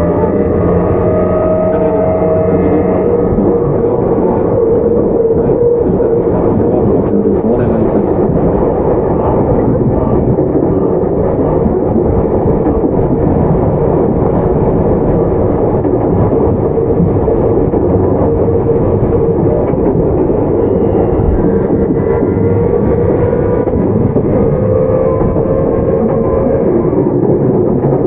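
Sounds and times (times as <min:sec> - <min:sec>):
steady train hum: 0:00.0 - 0:28.0
train wheels on rails: 0:00.0 - 0:28.0.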